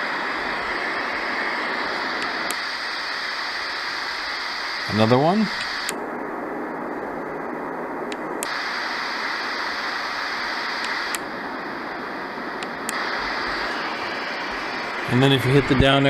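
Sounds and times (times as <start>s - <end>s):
steady white noise: 0.0s - 16.0s.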